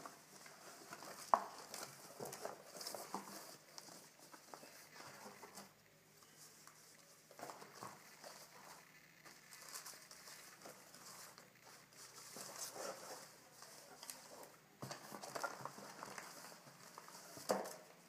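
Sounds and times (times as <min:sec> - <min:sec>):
paper envelopes rustling: 0:00.0 - 0:18.0
soft paper ticks: 0:00.1 - 0:17.8.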